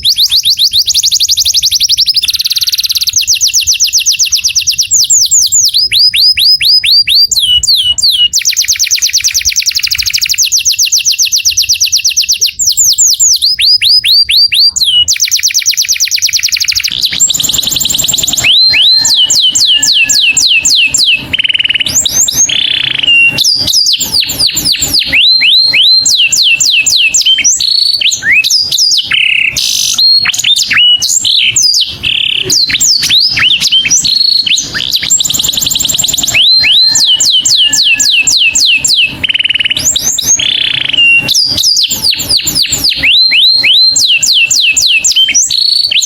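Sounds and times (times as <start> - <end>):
canary singing: 0.0 - 46.0.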